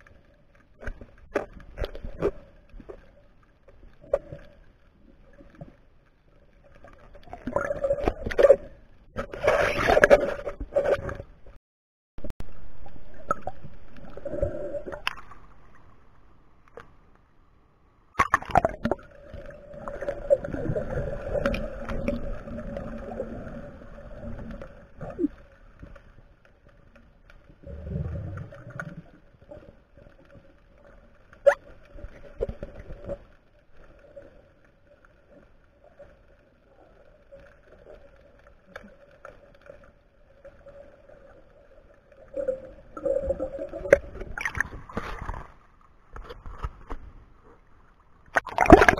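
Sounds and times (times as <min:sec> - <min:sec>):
muffled underwater churning: 0:00.0 - 0:11.6, 0:12.4 - 0:16.9, 0:18.1 - 0:48.9.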